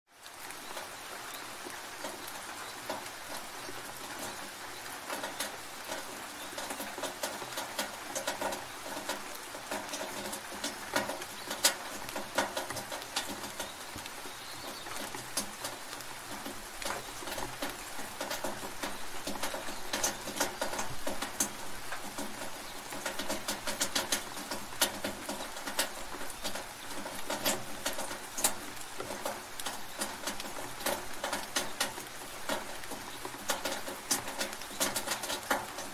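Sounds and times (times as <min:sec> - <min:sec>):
rain hiss: 0:00.1 - 0:35.9
sharp water drips: 0:00.2 - 0:35.9.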